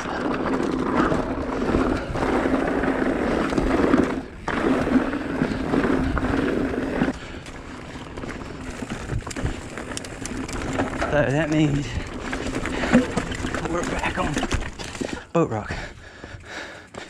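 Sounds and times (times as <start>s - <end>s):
bike rattling over rocks: 0.0s - 15.4s
bike tyres on rocky trail: 0.0s - 17.0s.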